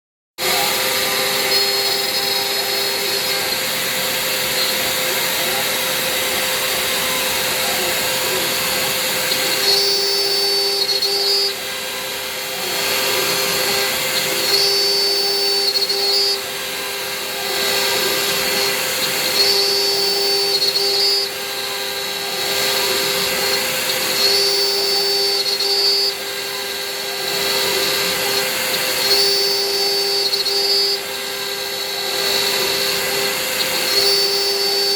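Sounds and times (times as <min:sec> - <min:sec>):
machine whine: 0:00.4 - 0:34.9
milling machine hum: 0:00.4 - 0:34.9.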